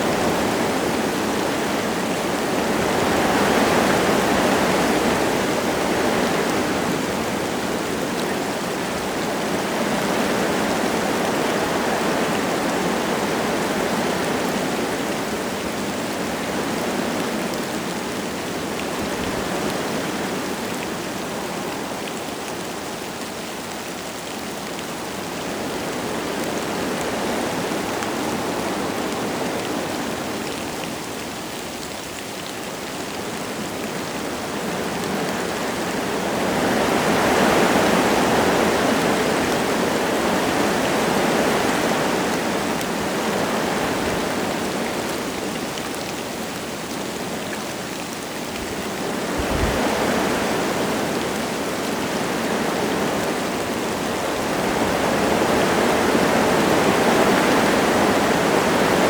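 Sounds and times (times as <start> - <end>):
light rain falling: 0.0 - 59.0
wind gusting through trees: 0.0 - 59.0.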